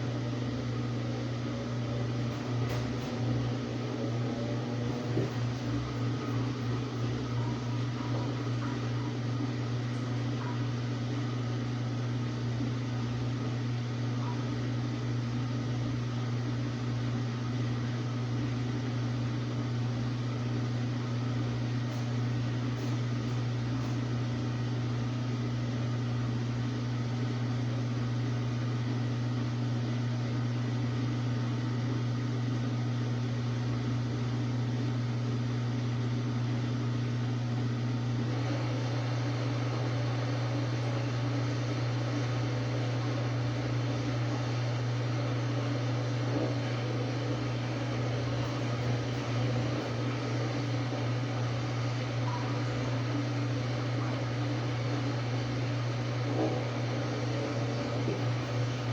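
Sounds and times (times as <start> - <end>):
washing machine motor hum: 0.0 - 58.9.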